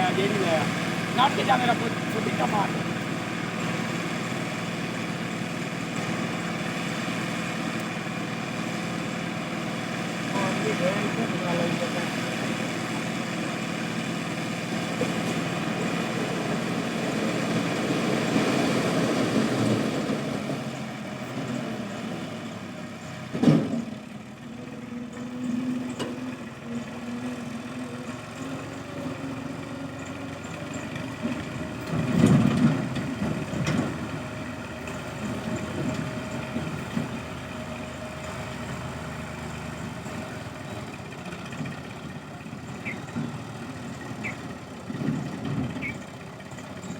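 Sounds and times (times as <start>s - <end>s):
tractor engine idling: 0.0s - 46.9s.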